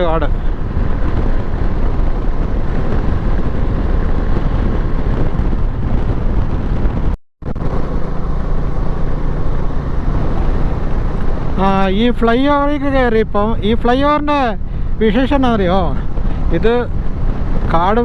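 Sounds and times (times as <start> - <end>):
motorcycle engine: 0.0 - 17.8
road noise: 0.0 - 18.0
wind rushing over microphone: 0.0 - 18.0.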